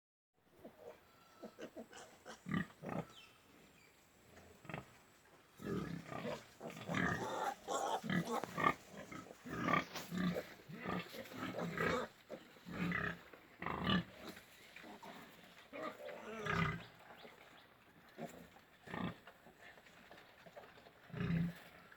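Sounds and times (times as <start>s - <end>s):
pigs calling: 0.6s - 3.6s, 4.5s - 21.8s.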